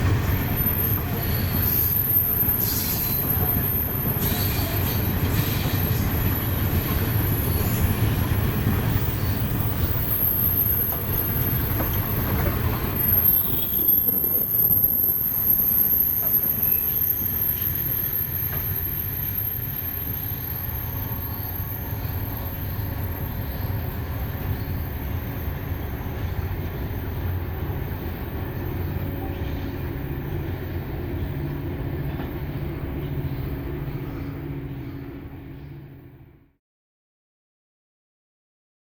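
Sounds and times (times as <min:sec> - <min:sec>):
freight train wheels rumbling: 0:00.0 - 0:36.4.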